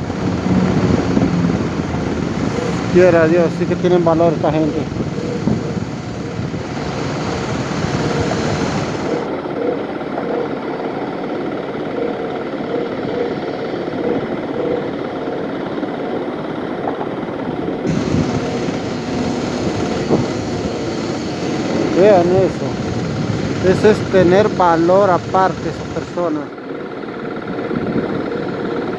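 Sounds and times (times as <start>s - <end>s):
wind buffeting microphone: 0.0s - 11.6s, 12.6s - 26.1s, 27.4s - 28.9s.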